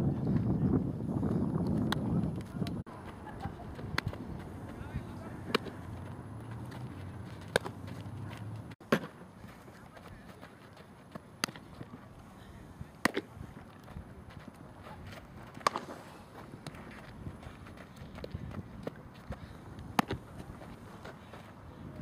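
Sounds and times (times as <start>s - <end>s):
faint outdoor background: 0.0s - 22.0s.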